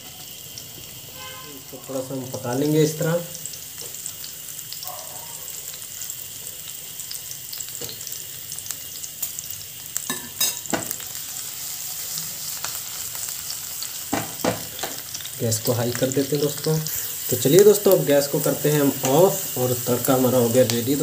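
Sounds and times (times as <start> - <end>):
chillies sizzling in hot oil: 0.0 - 21.0.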